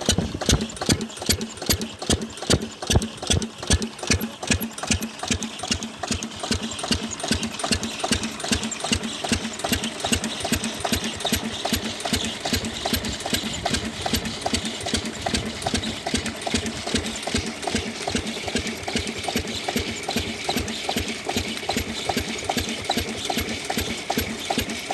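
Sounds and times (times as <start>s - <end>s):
diesel engine knocking: 0.0s - 24.9s.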